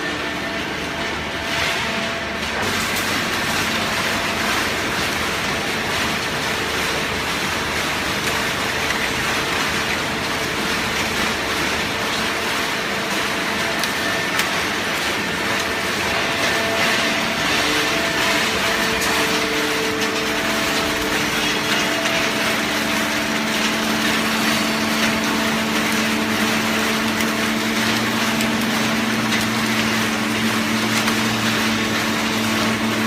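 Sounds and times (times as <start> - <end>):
steady machinery noise: 0.0 - 33.0.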